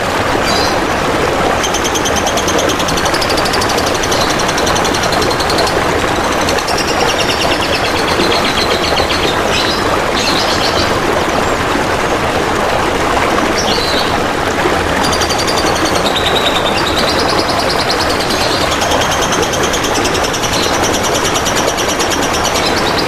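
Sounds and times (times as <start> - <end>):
trickling water: 0.0 - 23.0.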